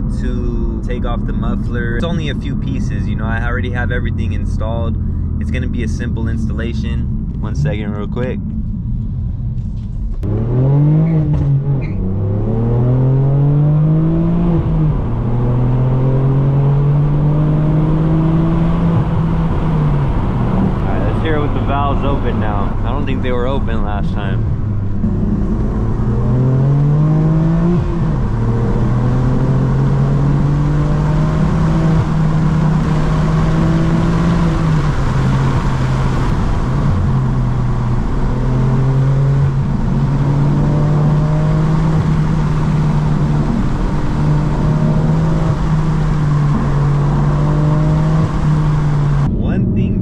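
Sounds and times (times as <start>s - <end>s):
car exhaust with gear changes: 0.0s - 50.0s.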